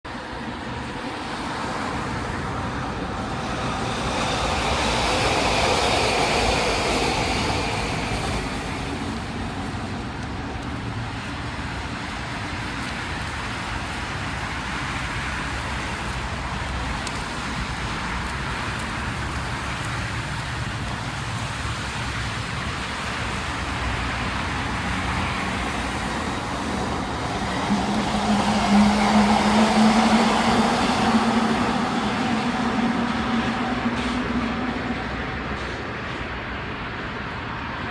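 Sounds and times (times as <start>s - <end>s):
trains running through station: 0.1s - 37.9s.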